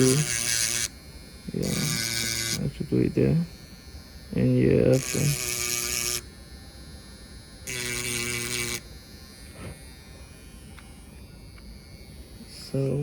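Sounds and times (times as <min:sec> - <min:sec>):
small electric tool buzzing: 0:00.0 - 0:13.0.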